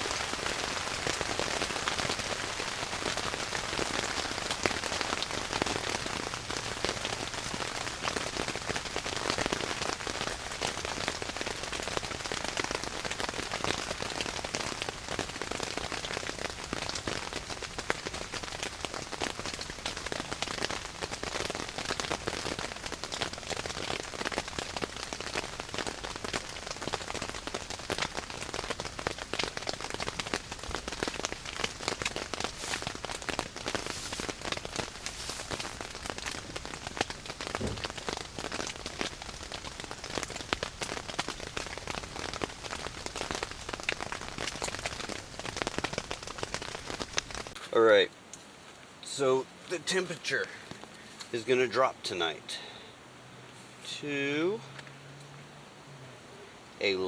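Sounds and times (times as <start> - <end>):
heavy rain on a tent: 0.0 - 57.0.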